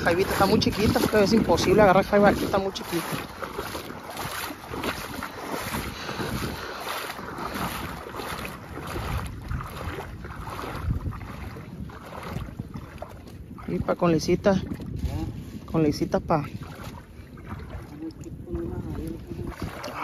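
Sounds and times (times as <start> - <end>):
water moving around boat: 0.0 - 20.0
wind buffeting microphone: 0.0 - 20.0.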